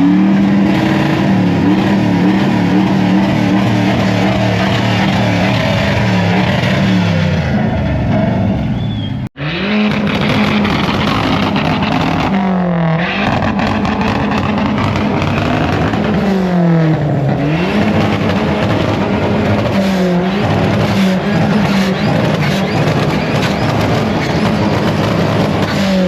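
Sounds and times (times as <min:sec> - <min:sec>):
car engine revving hard: 0:00.0 - 0:08.6, 0:09.4 - 0:26.0.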